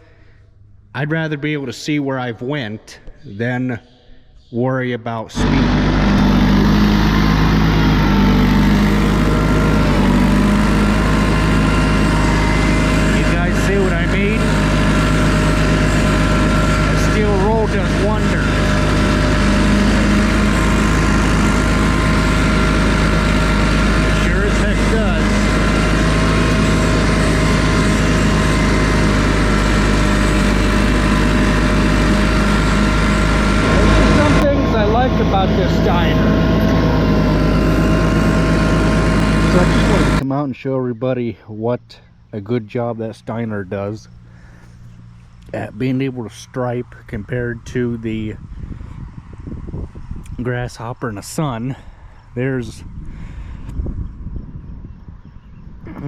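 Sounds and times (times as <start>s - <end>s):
tractor mower engine running: 5.3s - 40.7s, 41.7s - 54.2s.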